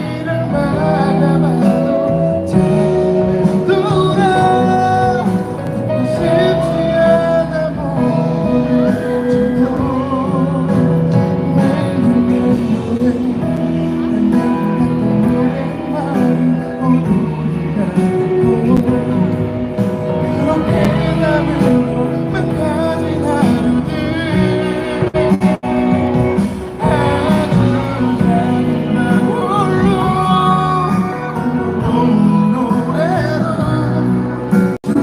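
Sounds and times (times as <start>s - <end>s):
person singing with vibrato: 0.0s - 35.0s
pop ballad band accompaniment: 0.0s - 35.0s.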